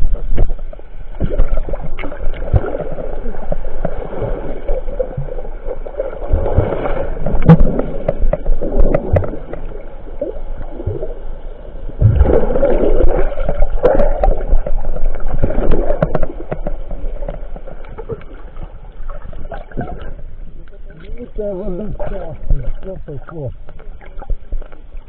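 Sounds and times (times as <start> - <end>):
sea water sloshing: 0.0 - 25.0.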